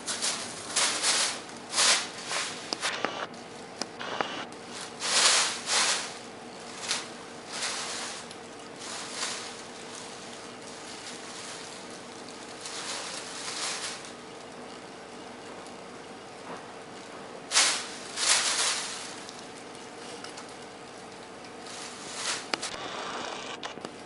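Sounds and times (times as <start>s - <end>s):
plastic bags crinkling: 0.0s - 3.8s, 4.6s - 22.7s
faint steady hum: 0.0s - 24.0s.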